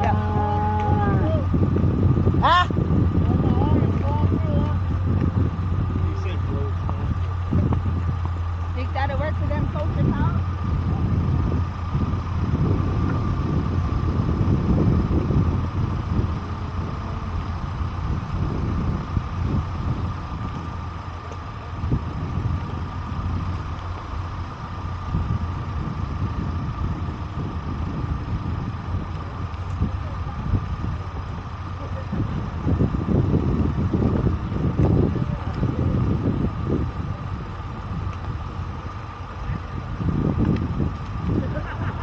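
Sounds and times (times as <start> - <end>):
faint steady whine: 0.0 - 42.0
vehicle engine running: 0.0 - 42.0.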